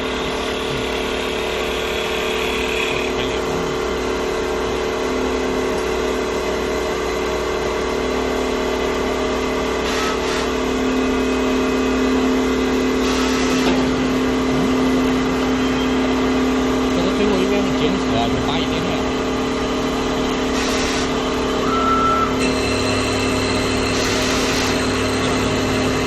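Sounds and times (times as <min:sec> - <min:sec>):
wood lathe motors humming: 0:00.0 - 0:26.0.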